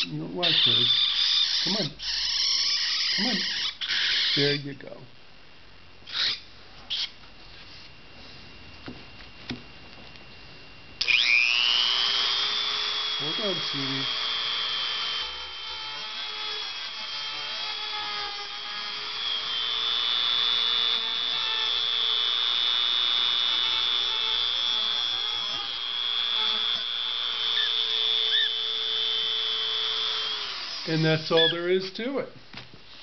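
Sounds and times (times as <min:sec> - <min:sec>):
rotary tool whining: 0:00.0 - 0:04.6, 0:06.1 - 0:07.2, 0:11.0 - 0:31.9.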